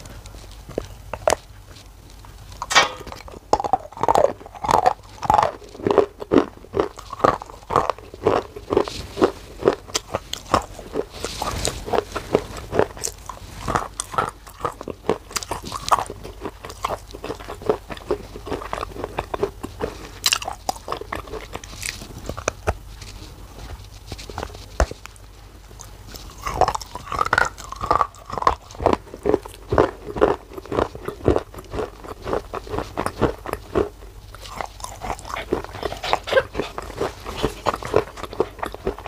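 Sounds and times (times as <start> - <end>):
crisp chewing crunches: 0.0 - 39.0.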